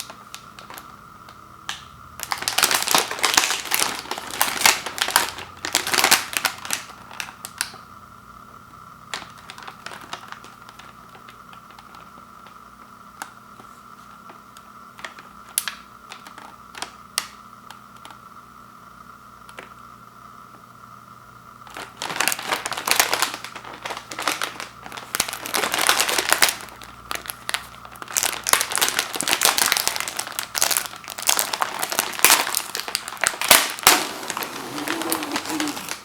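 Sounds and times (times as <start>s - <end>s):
plastic wrapper crinkling: 0.0s - 7.8s, 9.1s - 14.4s, 15.0s - 18.2s, 21.6s - 36.0s.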